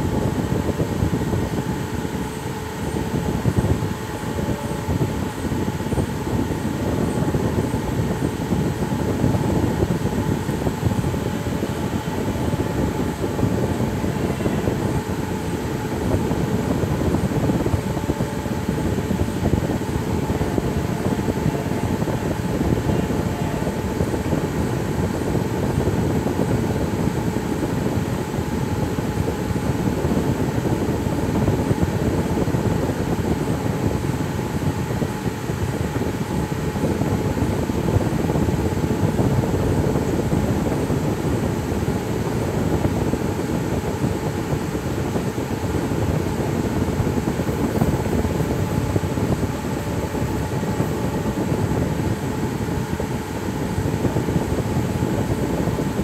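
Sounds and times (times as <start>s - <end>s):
faint steady hum: 0.0s - 56.0s
machine rumble: 0.0s - 56.0s.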